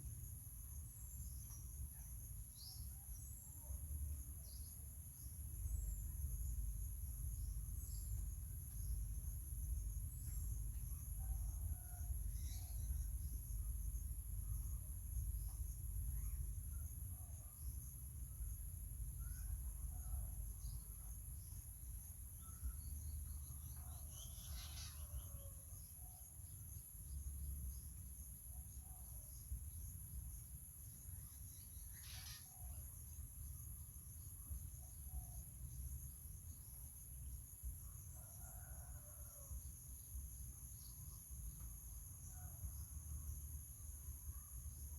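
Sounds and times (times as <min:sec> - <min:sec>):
insect drone: 0:00.0 - 0:44.9.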